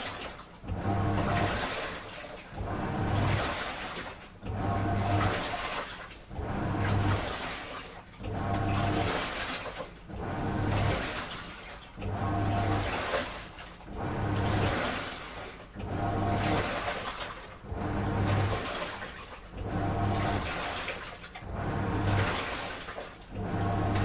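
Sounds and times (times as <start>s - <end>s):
washing machine agitating: 0.0s - 24.0s
water and laundry sloshing: 0.0s - 24.0s
low motor hum: 0.6s - 2.0s, 2.6s - 7.6s, 8.2s - 24.0s.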